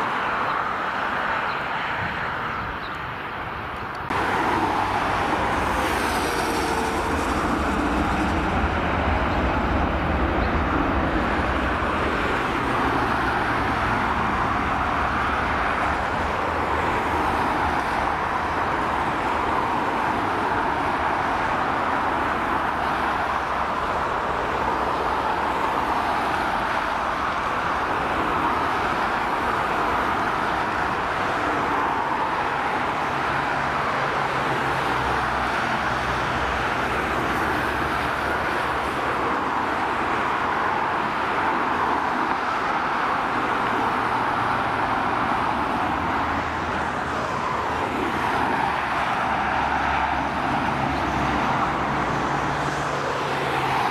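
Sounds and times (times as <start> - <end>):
jet engines roaring: 3.4 - 53.9.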